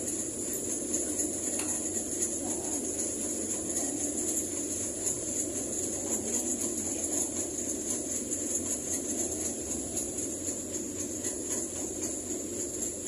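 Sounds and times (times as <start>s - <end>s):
bus running noise: 0.0s - 13.0s
constant high whine: 0.0s - 13.0s.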